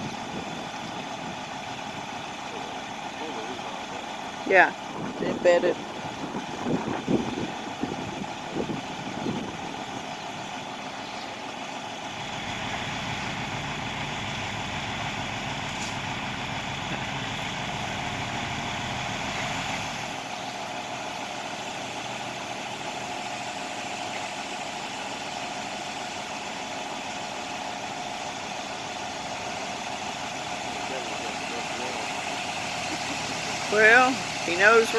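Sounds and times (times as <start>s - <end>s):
heavy truck engine running: 0.0s - 34.9s.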